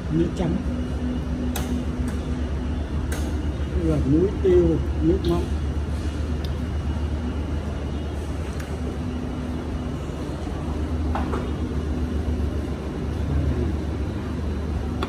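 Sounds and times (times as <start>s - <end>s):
faint hum: 0.0s - 15.0s
restaurant room noise: 0.0s - 15.0s.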